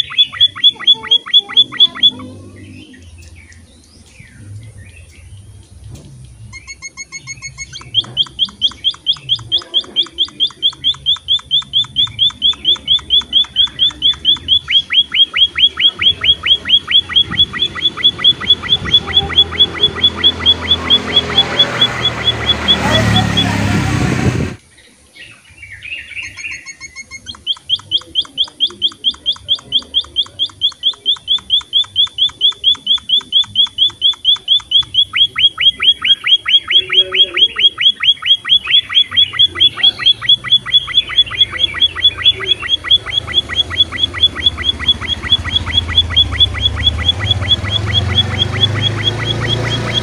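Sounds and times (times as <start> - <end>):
bird calling rapid high notes: 0.0 - 5.6, 6.4 - 24.6, 25.7 - 50.0.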